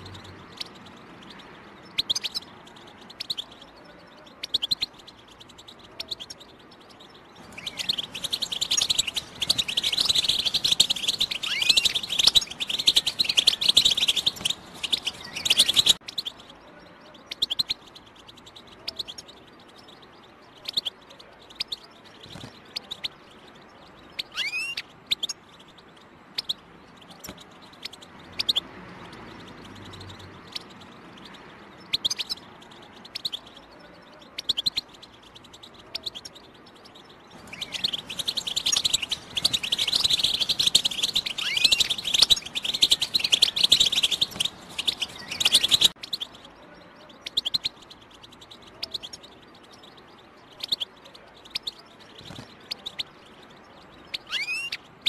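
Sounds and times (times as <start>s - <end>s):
goldfinch chirping and twittering: 0.0s - 55.0s.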